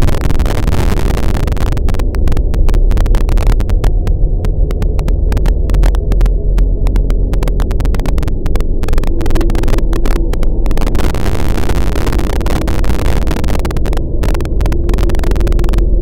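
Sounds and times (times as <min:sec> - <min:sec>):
harsh irregular crackles: 0:00.0 - 0:16.0
heavy low rumble: 0:00.0 - 0:16.0.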